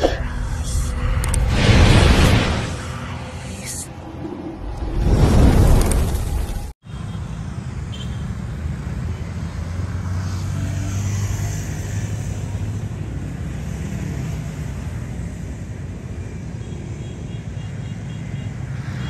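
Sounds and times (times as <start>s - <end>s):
road traffic engine hum: 0.0s - 19.0s.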